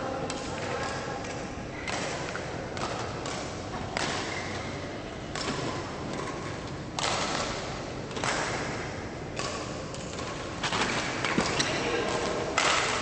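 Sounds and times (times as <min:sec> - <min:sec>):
echoing sports hall hum: 0:00.0 - 0:13.0
rackets striking shuttlecocks: 0:00.2 - 0:13.0.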